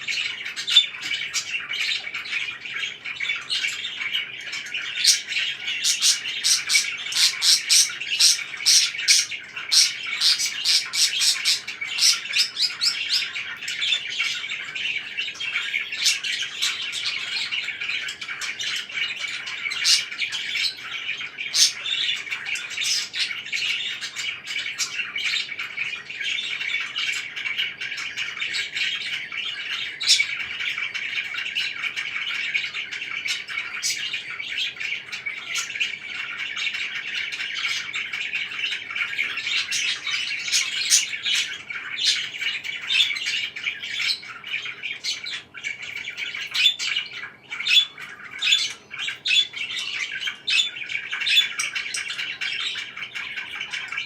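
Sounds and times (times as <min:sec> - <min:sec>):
parakeets chirping and squawking: 0:00.0 - 0:54.0.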